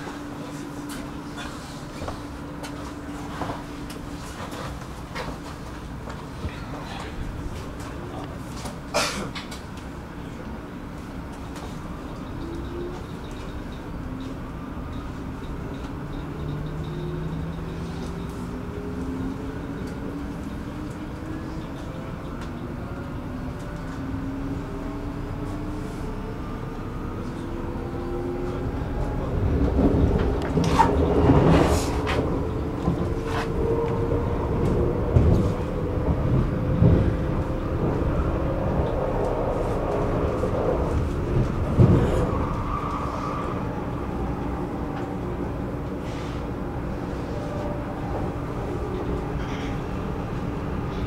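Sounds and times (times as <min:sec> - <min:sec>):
train wheel rumble: 0:00.0 - 0:51.0.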